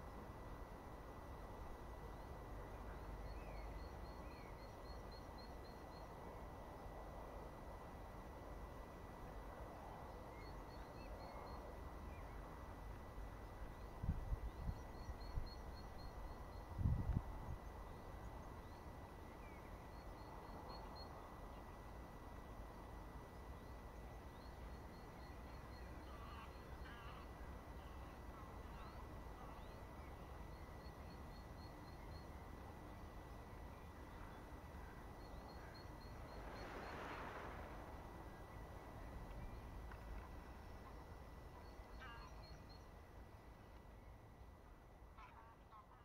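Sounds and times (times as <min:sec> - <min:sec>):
faint meadow ambience: 0:00.0 - 0:46.0.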